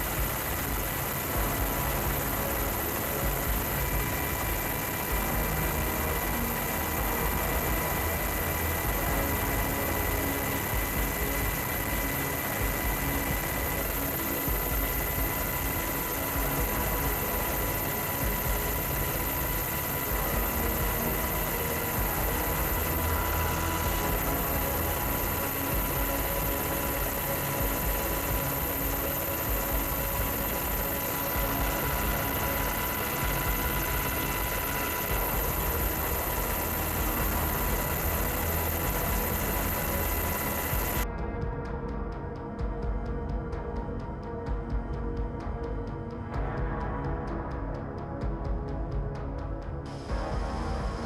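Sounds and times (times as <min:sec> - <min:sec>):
faint whining tones: 0:00.0 - 0:51.0
low machine rumble: 0:00.0 - 0:51.0.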